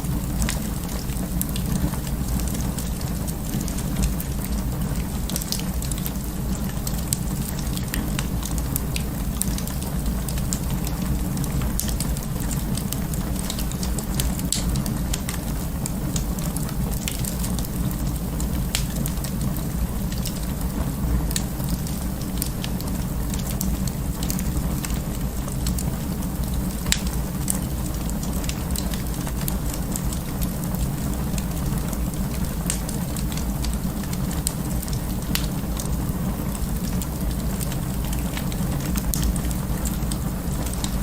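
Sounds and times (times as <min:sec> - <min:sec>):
fire crackling in fireplace: 0:00.0 - 0:41.0.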